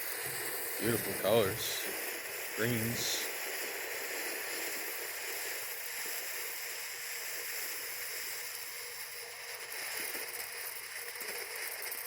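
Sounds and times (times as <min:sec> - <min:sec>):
firework fountain hissing: 0:00.0 - 0:12.0.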